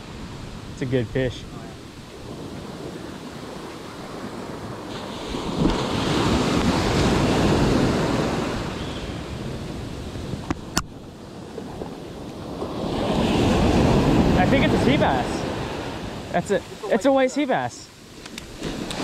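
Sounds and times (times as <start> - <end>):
wind buffeting microphone: 0.0 - 16.8
surf washing up beach: 0.0 - 19.0.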